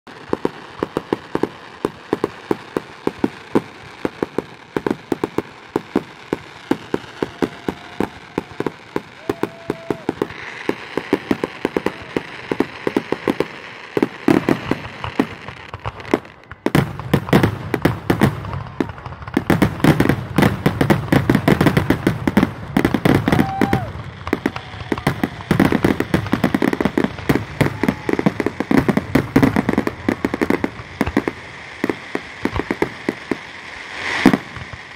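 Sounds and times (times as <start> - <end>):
fireworks bangs and crackles: 0.1 - 34.9.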